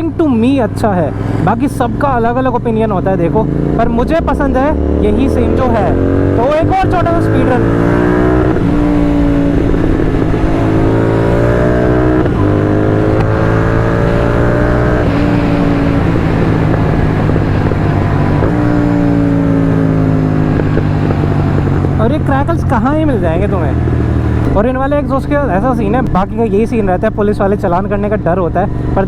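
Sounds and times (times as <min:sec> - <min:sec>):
exhaust crackles: 0:00.0 - 0:29.0
motorcycle engine accelerating: 0:00.0 - 0:29.0.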